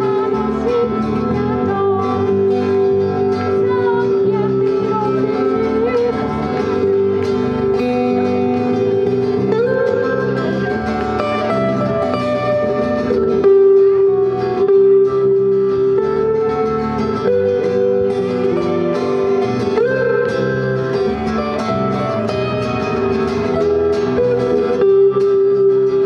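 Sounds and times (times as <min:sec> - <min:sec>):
acoustic guitars strumming: 0:00.0 - 0:26.0
electric bass: 0:00.0 - 0:26.0
held melody line: 0:00.0 - 0:26.0.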